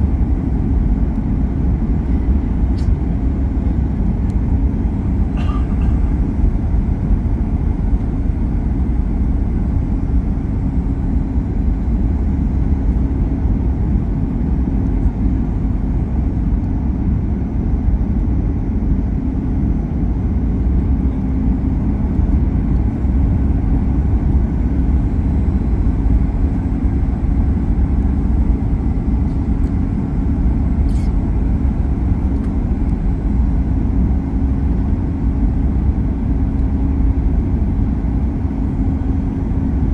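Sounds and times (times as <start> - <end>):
airplane cabin rumble: 0.0 - 39.9
faint steady hum: 0.0 - 39.9.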